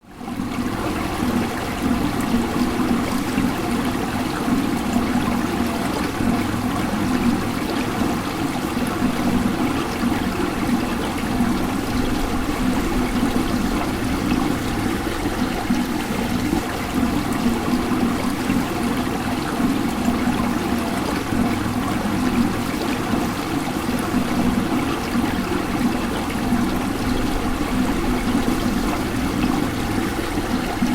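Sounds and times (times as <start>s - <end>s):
water fountain splashing: 0.0s - 30.9s.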